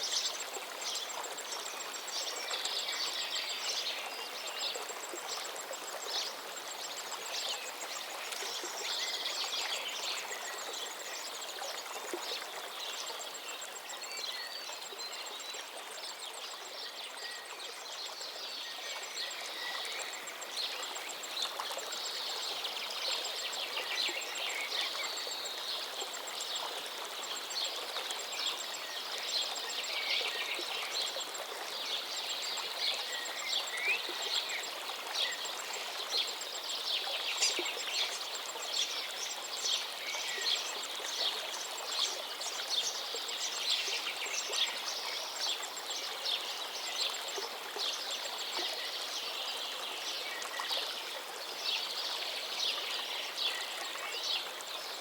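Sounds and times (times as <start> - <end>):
river water running: 0.0 - 55.0.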